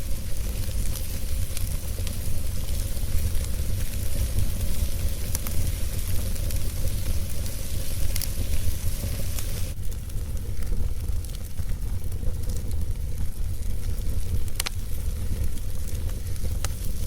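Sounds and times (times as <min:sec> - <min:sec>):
low rumble: 0:00.0 - 0:16.8
crackling pops: 0:00.0 - 0:17.0
fire hissing: 0:00.0 - 0:17.0.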